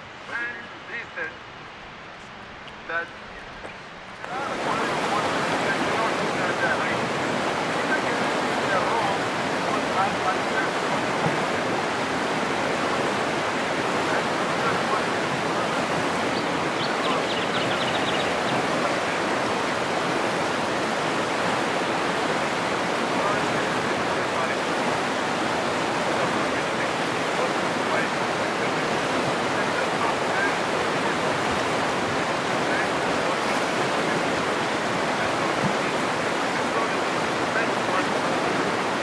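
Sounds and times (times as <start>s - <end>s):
river rushing over rocks: 0.0s - 39.0s.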